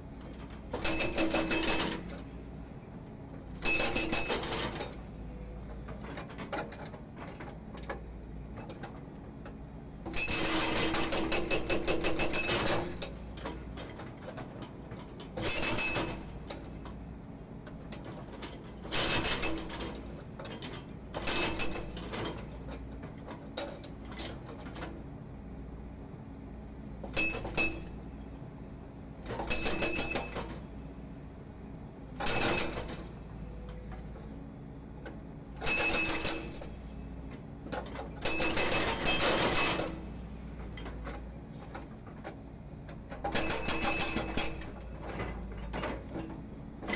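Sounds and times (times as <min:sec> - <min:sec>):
excavator engine running: 0:00.1 - 0:46.9.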